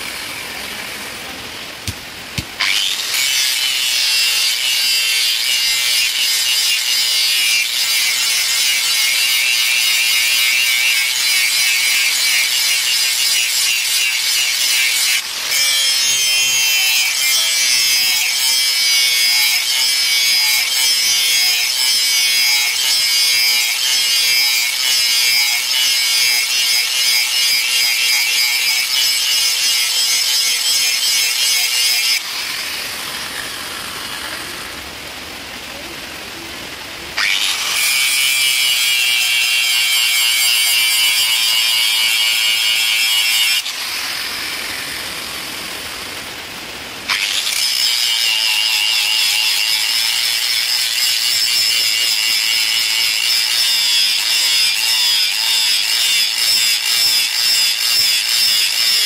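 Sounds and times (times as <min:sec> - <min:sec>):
angle grinder grinding steel: 0:00.0 - 0:34.8, 0:37.1 - 0:46.2, 0:47.1 - 0:59.0.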